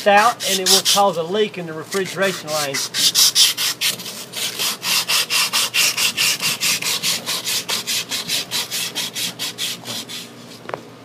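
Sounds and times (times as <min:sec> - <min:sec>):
sandpaper scraping on metal: 0:00.0 - 0:10.6.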